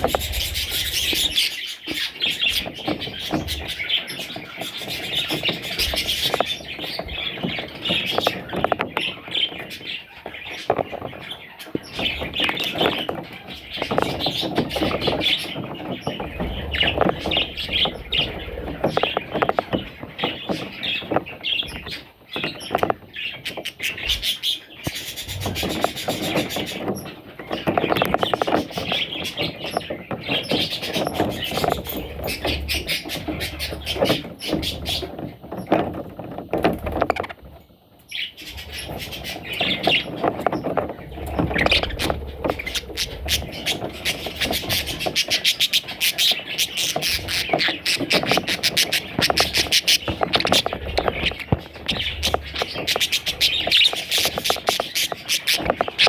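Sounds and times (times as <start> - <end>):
bird chicks chirping rapidly: 0.0 - 56.0.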